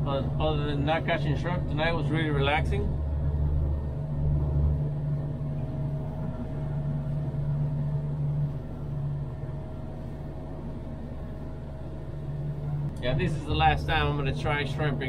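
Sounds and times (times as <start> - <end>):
boat engine humming: 0.0 - 15.0
faint steady tone: 0.0 - 15.0.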